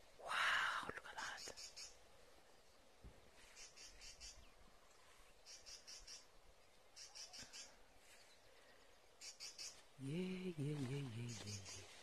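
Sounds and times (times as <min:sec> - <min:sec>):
faint high insect chirping: 0:00.3 - 0:02.8, 0:03.4 - 0:12.0.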